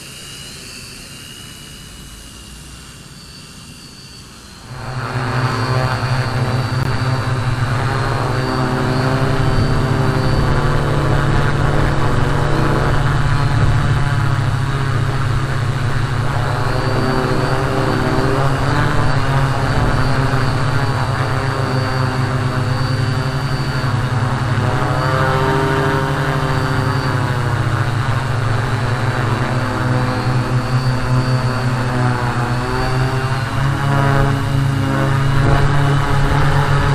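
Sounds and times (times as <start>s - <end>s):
drone motors buzzing: 0.0s - 36.9s.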